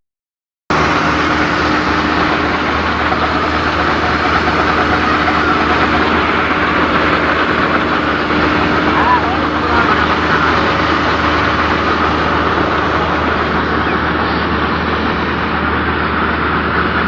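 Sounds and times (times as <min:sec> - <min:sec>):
combine harvester running: 0:00.7 - 0:17.0.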